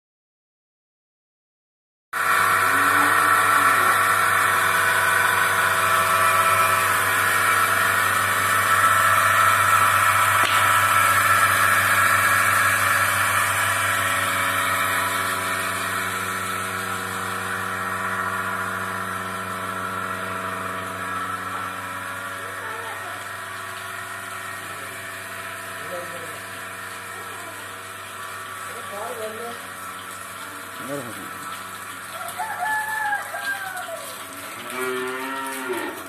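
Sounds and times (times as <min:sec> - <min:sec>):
vacuum pump humming with whine: 0:02.2 - 0:36.0.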